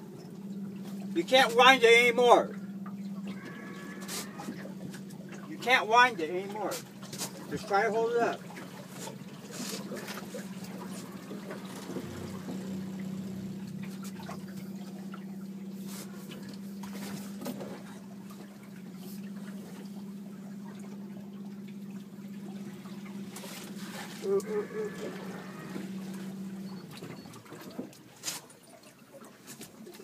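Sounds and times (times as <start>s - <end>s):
outboard motor idling: 0.0s - 30.0s
water lapping against hull: 0.0s - 30.0s.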